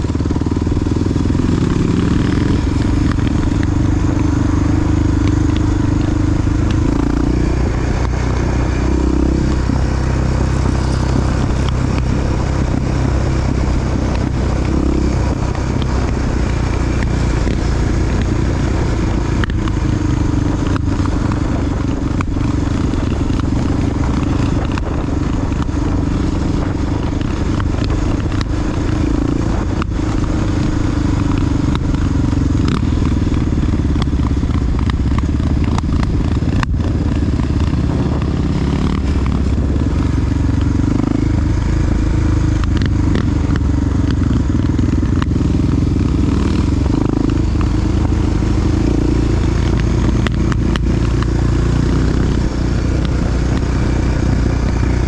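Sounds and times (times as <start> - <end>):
motorcycle engine running: 0.0 - 55.0
sharp ticks and clatter: 0.0 - 55.0.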